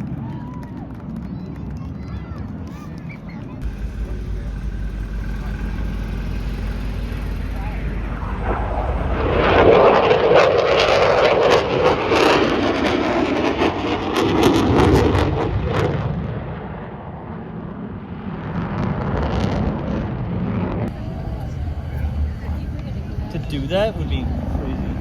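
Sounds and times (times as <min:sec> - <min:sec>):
plane flying past: 0:03.5 - 0:25.0.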